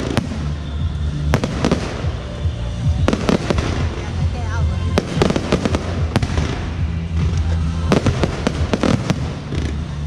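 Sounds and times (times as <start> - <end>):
steady low drone: 0.0 - 10.0.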